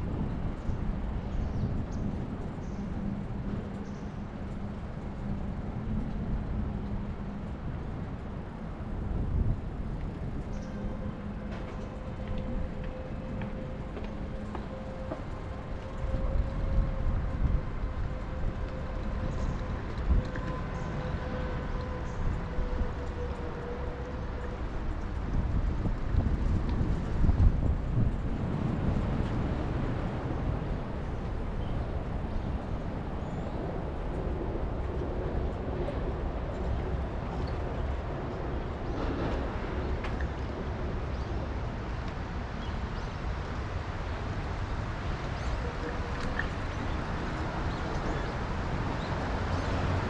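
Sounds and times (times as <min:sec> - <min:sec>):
city traffic rumble: 0:00.0 - 0:50.0
wind on microphone: 0:00.0 - 0:50.0.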